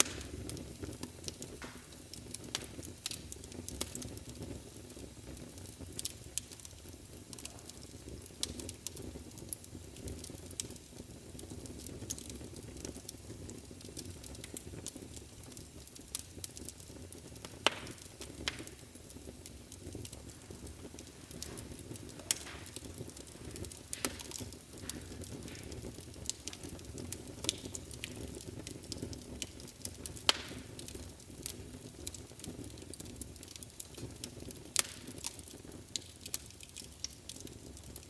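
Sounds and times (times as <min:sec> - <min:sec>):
fire crackles and pops: 0:00.0 - 0:38.0
low rumble of flames: 0:00.0 - 0:38.0.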